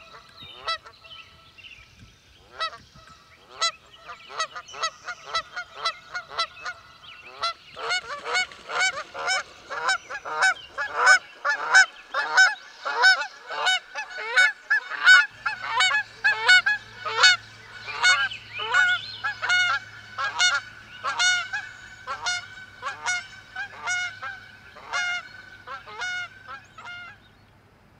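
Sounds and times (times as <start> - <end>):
geese honking: 0.0 - 1.0, 3.4 - 27.2
faint low steady hum: 0.0 - 27.9.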